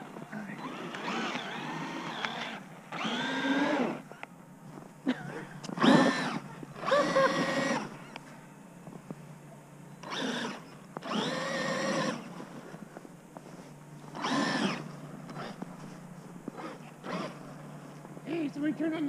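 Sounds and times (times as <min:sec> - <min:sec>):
electric motor whining: 0:00.0 - 0:04.3, 0:05.6 - 0:08.3, 0:10.0 - 0:18.4.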